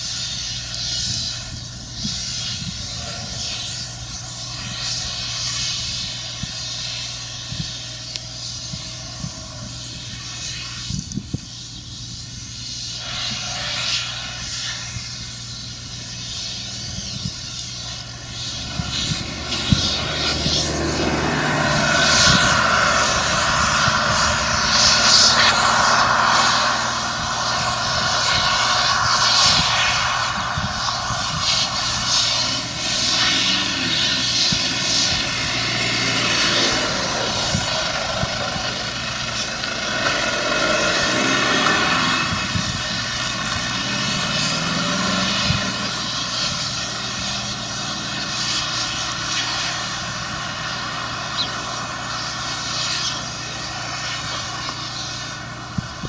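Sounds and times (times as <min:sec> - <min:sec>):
large engine droning: 0:00.0 - 0:56.0.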